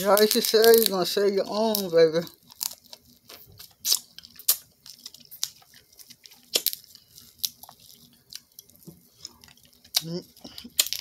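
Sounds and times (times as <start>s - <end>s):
crunching and chewing: 0.0s - 11.0s
shells cracking and peeling: 0.0s - 11.0s.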